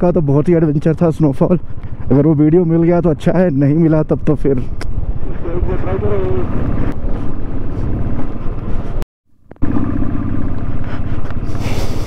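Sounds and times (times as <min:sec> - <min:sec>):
motorcycle engine running: 0:00.0 - 0:03.5, 0:04.9 - 0:12.0.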